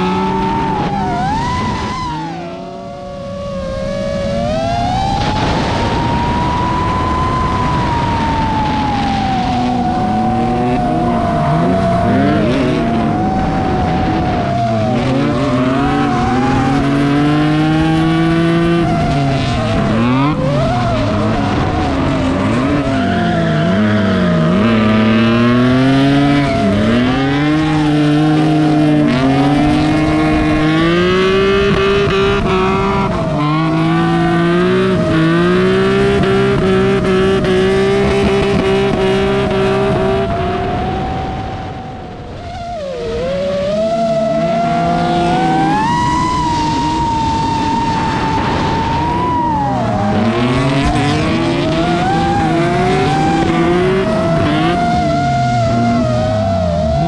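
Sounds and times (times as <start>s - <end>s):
car engine revving: 0.0s - 57.0s
tyres skidding and squealing: 0.0s - 57.0s.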